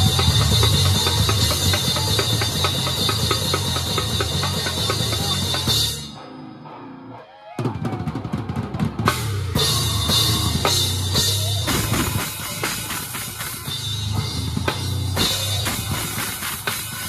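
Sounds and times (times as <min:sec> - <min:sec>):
drum kit played hard: 0:00.0 - 0:06.2, 0:07.6 - 0:17.0
live band: 0:00.0 - 0:17.0.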